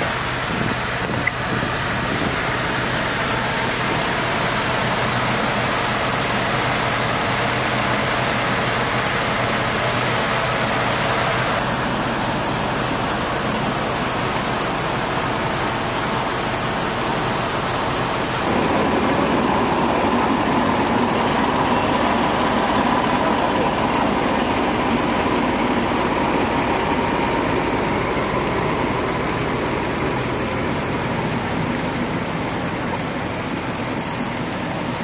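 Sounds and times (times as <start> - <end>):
pump engine humming: 0.0 - 35.0
water stream rushing hiss: 0.0 - 35.0.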